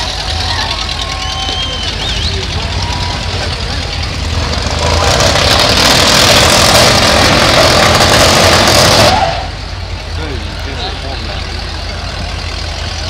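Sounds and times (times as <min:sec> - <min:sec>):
car engines roaring at full throttle: 0:00.0 - 0:13.0
low engine rumble: 0:00.0 - 0:13.0.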